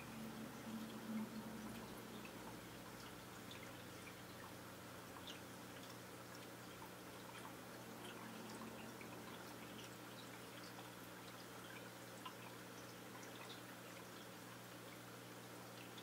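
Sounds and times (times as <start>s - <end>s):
faint aquarium water trickling: 0.0s - 16.0s
small water drips and plinks: 0.0s - 16.0s
steady low hum: 0.0s - 16.0s.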